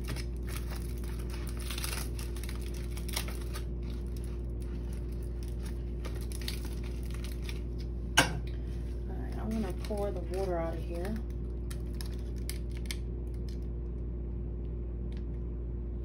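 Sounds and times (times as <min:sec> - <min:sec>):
aluminium foil crinkling: 0:00.0 - 0:13.7
steady low hum: 0:00.0 - 0:16.0.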